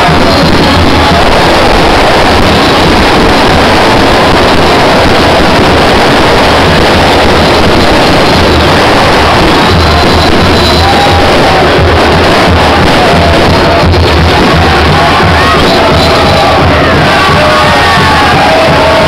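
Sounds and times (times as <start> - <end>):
crowd chanting: 0.0 - 19.0.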